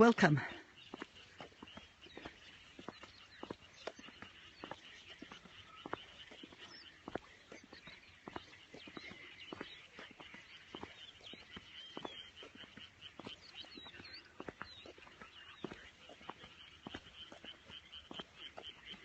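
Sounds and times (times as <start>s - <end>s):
birds calling: 0.0s - 19.0s
frogs calling: 0.0s - 19.0s.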